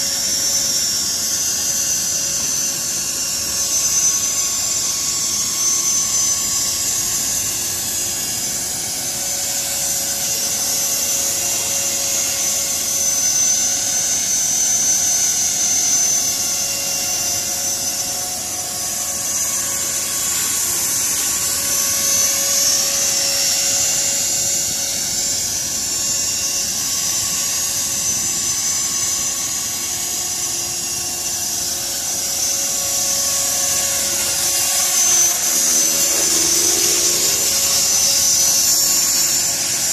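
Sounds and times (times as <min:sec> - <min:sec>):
helicopter motor whine: 0:00.0 - 0:39.9
spinning rotors hum: 0:00.0 - 0:39.9.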